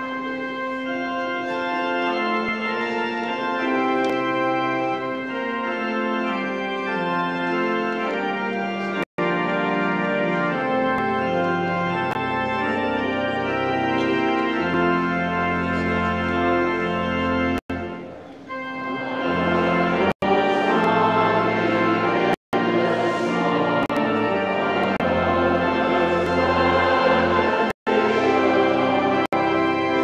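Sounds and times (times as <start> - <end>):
organ playing slow chords: 0.0 - 30.0.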